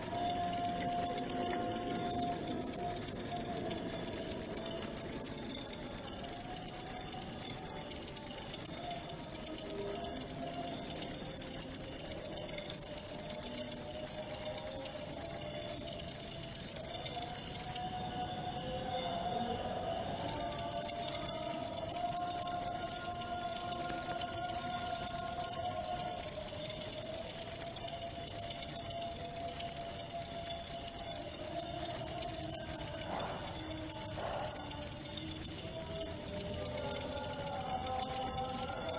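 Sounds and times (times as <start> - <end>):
cricket chirping trill: 0.0 - 18.7, 20.2 - 38.9.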